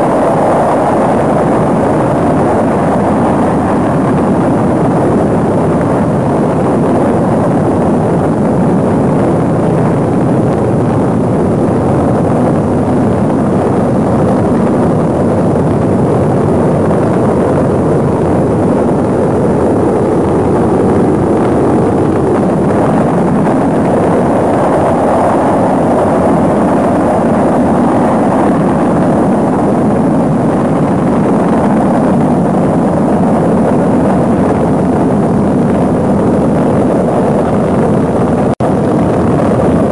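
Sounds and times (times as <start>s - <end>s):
rocket engines roaring: 0.0s - 39.9s.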